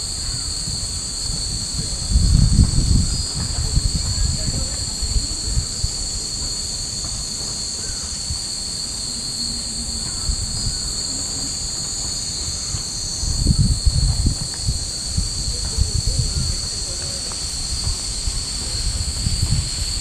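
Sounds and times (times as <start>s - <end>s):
cicadas droning: 0.0s - 20.0s
wind rumbling on microphone: 0.0s - 20.0s.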